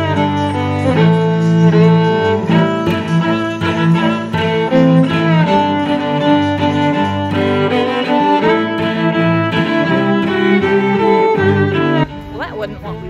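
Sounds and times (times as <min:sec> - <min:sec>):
background music with bowed strings: 0:00.0 - 0:13.0.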